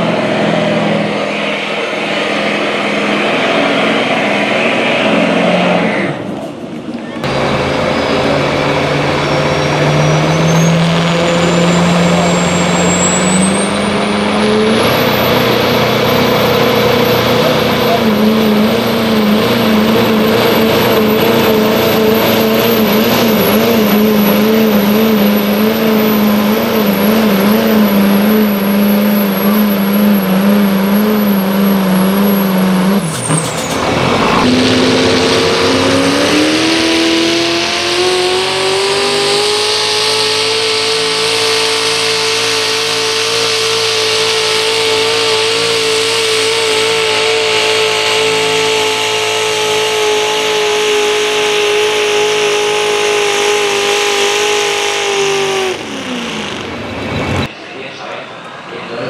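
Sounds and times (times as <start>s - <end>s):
diesel truck engine at high revs: 0.0s - 59.0s.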